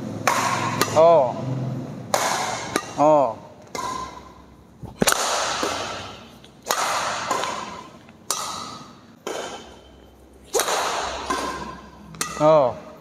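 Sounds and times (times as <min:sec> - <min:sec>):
rackets hitting shuttlecock: 0:00.0 - 0:13.0.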